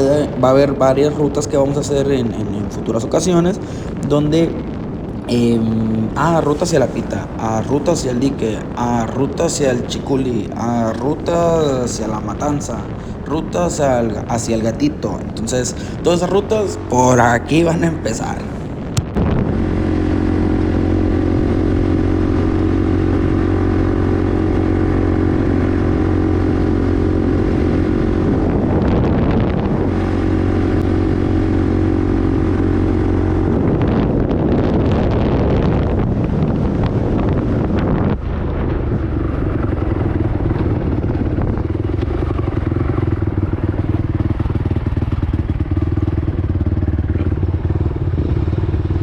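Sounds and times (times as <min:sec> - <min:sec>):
atv engine running: 0:00.0 - 0:49.0.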